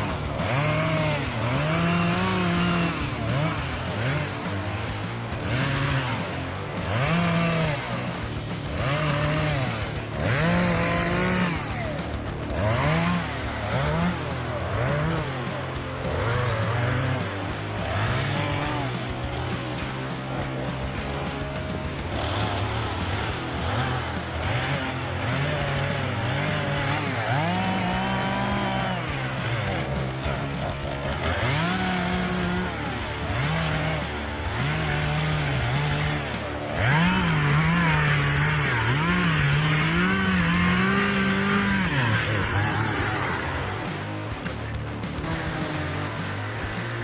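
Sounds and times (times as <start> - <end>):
chainsaw engine revving: 0.0 - 47.0.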